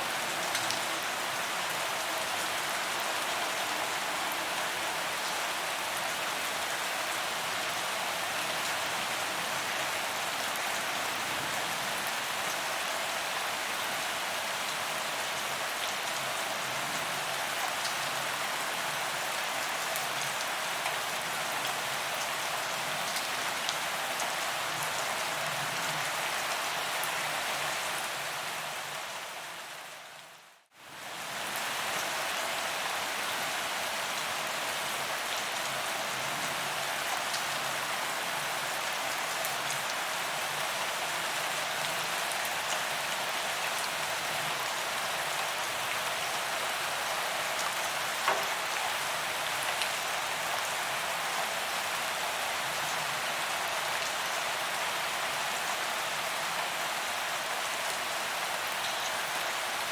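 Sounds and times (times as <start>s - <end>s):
rain on pavement: 0.0s - 59.9s.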